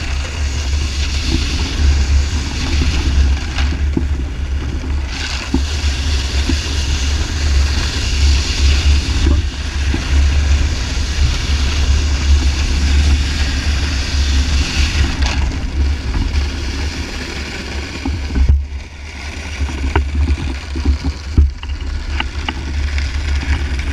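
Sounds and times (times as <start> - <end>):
snowboard clicks and scrapes: 0.0 - 23.9
snowboard sliding on ice: 0.0 - 23.9
wind buffeting microphone: 0.0 - 23.9.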